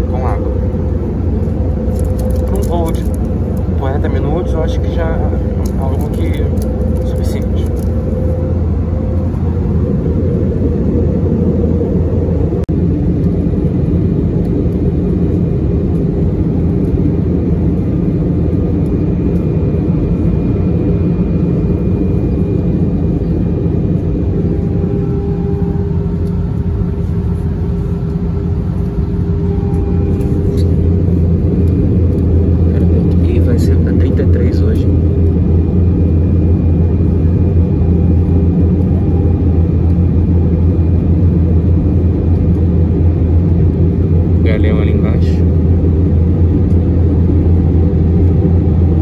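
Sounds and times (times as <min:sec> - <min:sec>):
aircraft cabin rumble: 0:00.0 - 0:49.0
faint high whines: 0:00.0 - 0:49.0.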